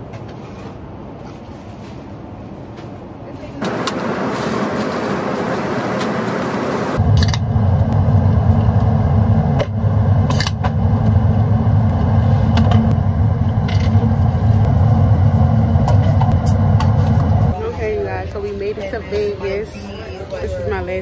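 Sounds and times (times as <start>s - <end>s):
airliner cabin drone: 3.5s - 20.6s.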